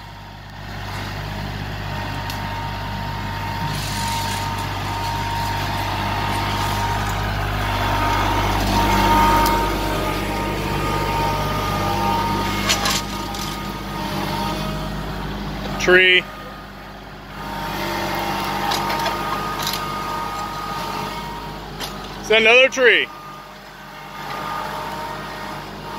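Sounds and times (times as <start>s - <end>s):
tractor diesel engine running: 0.0s - 25.9s
thin steady whine: 2.3s - 17.4s, 18.2s - 25.9s.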